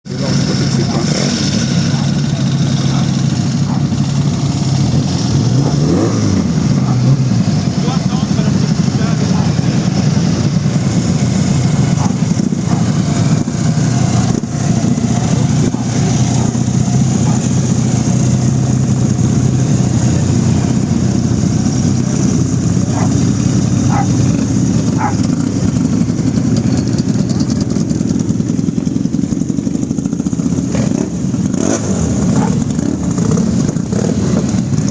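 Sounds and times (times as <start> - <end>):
racing car engines droning: 0.1 - 34.9.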